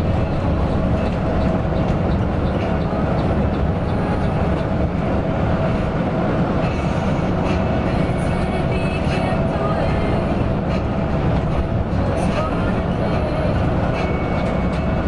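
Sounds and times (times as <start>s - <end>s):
diesel engine drone: 0.0s - 15.0s
road noise: 0.0s - 15.0s.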